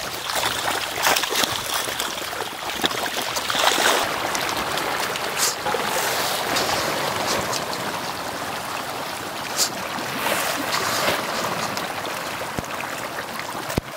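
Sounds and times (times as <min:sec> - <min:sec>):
fish splashing in pond water: 0:00.0 - 0:13.9.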